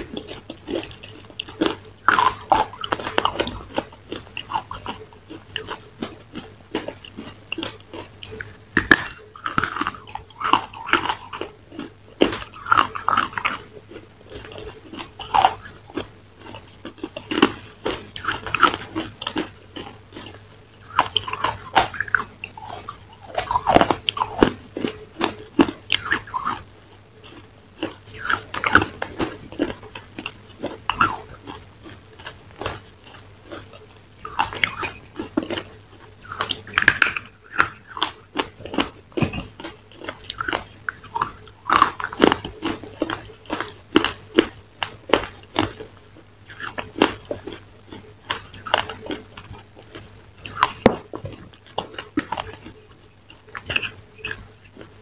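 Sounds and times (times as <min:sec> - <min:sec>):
chewing: 0:00.0 - 0:55.0
person crunching brittle food: 0:00.0 - 0:55.0.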